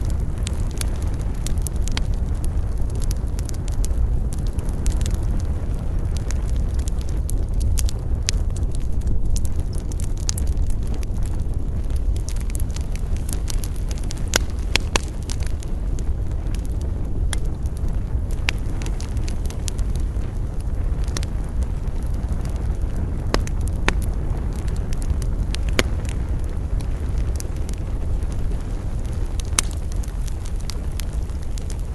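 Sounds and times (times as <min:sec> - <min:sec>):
campfire crackling and popping: 0:00.0 - 0:31.9
low rumble: 0:00.0 - 0:31.9.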